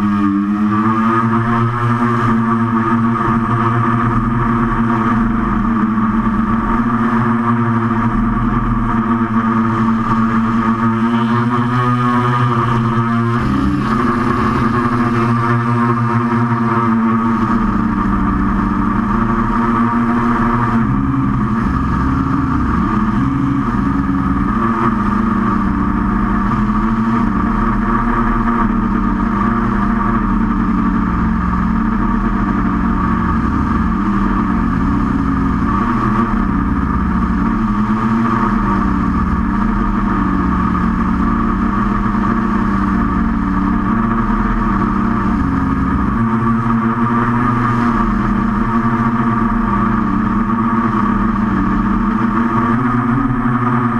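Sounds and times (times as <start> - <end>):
quadcopter propellers buzzing: 0.0 - 53.9.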